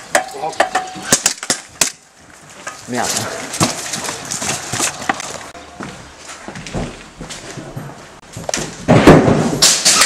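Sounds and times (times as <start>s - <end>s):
footsteps: 0.8s - 9.6s.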